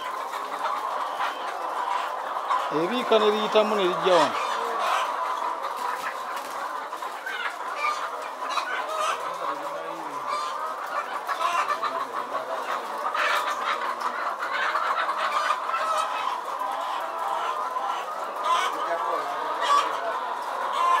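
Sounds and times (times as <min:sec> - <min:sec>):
hens clucking and cackling: 0:00.0 - 0:21.0.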